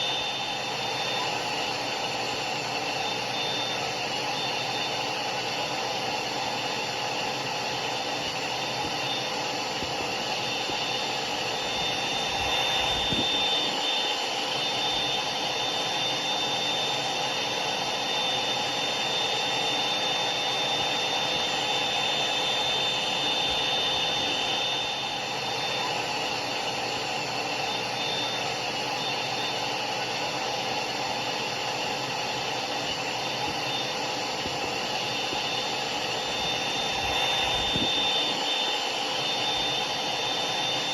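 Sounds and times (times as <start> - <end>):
hair dryer motor whine: 0.0 - 40.9
hair dryer running: 0.0 - 40.9.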